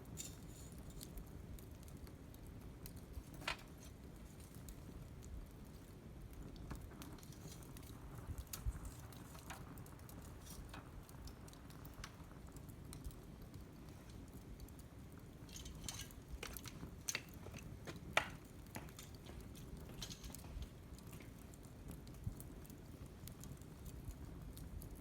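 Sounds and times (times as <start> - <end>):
low rumble of flame: 0.0 - 25.0
wood fire crackling: 0.0 - 25.0.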